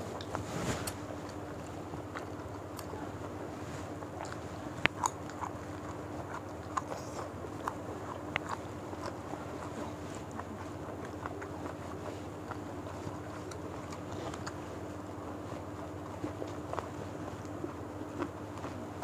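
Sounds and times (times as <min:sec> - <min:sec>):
faint steady hum: 0:00.0 - 0:19.0
people chewing food: 0:00.0 - 0:19.0.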